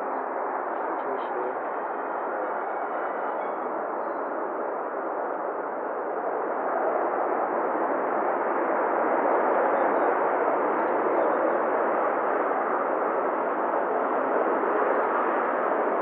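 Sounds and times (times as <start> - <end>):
jet airliner roar: 0.0 - 16.0.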